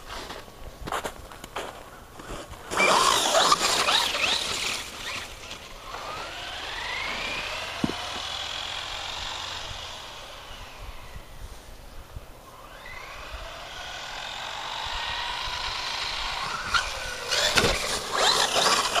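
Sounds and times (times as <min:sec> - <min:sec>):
electric motor revving and whining: 0:02.7 - 0:11.6, 0:12.5 - 0:19.0.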